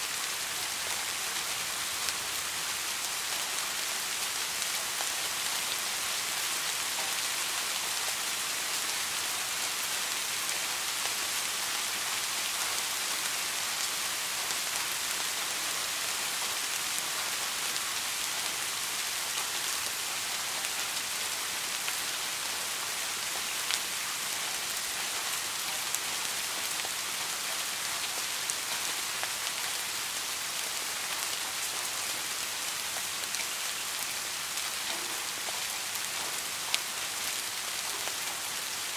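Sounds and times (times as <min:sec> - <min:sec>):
soft rain hiss: 0:00.0 - 0:38.9.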